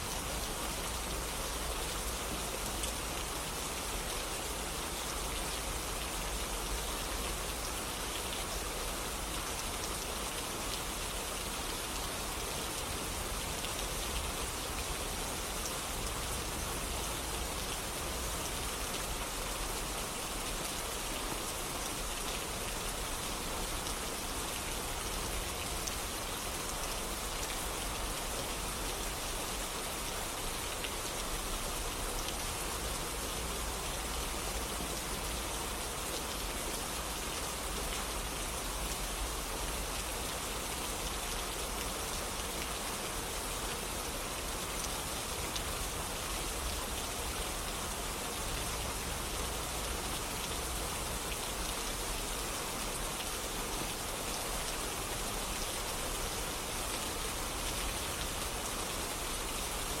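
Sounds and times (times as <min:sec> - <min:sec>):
steady rainfall: 0:00.0 - 1:00.0.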